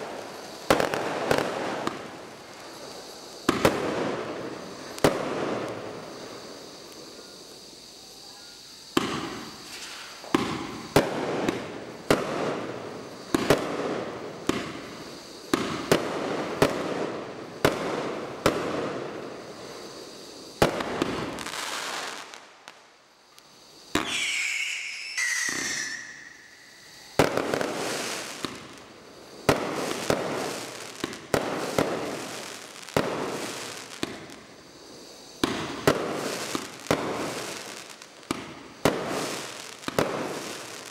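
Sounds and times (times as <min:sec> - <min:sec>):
firework bangs: 0:00.0 - 0:07.2, 0:08.9 - 0:20.0, 0:20.6 - 0:22.4, 0:23.9 - 0:34.5, 0:35.4 - 0:40.9
whistling firework tones: 0:00.0 - 0:40.9.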